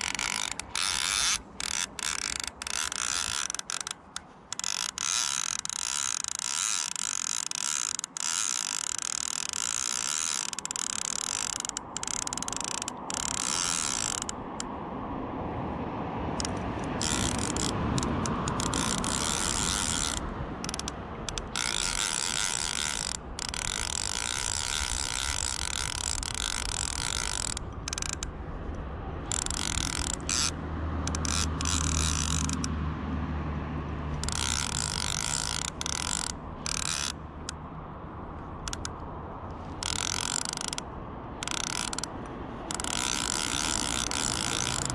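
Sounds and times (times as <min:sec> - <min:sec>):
fishing reel ratchet clicking: 0:00.0 - 0:14.7, 0:16.4 - 0:32.7, 0:34.1 - 0:37.6, 0:38.4 - 0:44.9.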